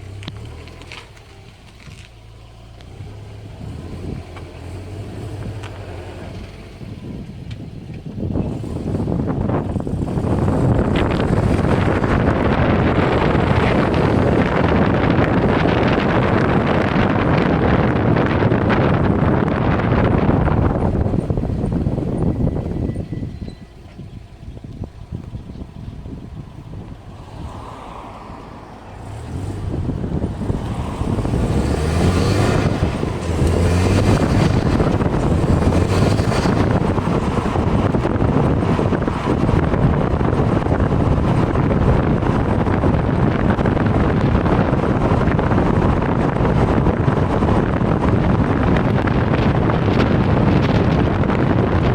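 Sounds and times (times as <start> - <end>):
car engine running: 0.0 - 51.9
vehicle road noise: 0.0 - 51.9
wind buffeting microphone: 2.9 - 51.9.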